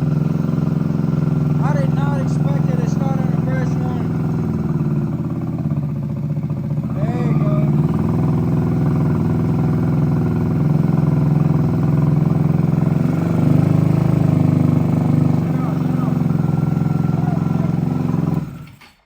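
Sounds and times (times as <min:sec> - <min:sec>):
moped engine idling: 0:00.0 - 0:18.8.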